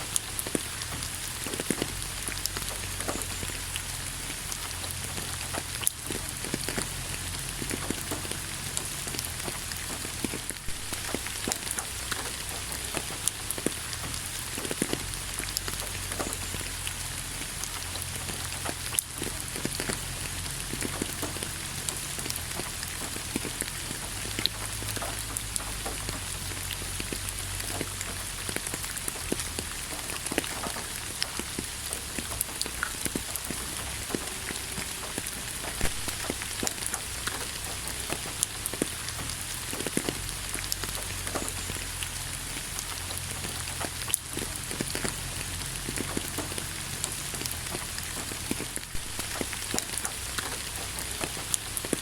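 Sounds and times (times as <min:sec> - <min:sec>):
rain falling: 0:00.0 - 0:52.0
raindrops striking close by: 0:00.0 - 0:52.0.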